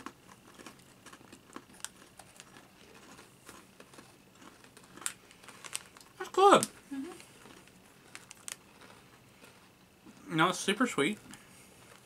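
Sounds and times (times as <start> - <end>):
people chewing crunchy crackers: 0.0 - 12.0.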